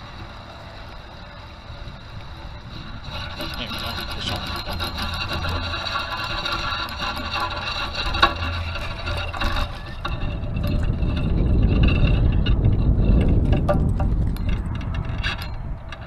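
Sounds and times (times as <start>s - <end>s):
spinning reel gears whirring: 0.0s - 16.0s
wind buffeting microphone: 0.0s - 16.0s.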